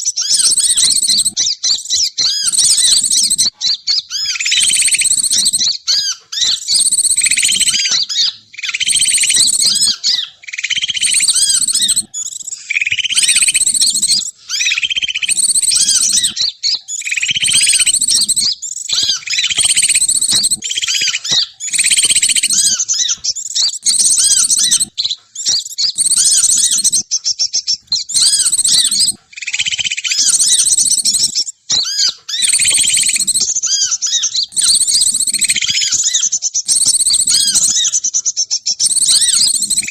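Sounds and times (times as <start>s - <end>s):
high-pitched bird chirping: 0.0s - 39.9s.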